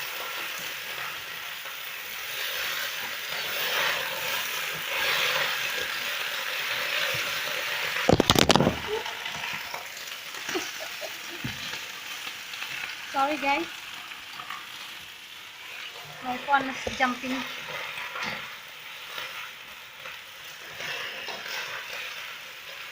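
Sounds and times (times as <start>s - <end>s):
vegetables sizzling in a pan: 0.0s - 22.9s.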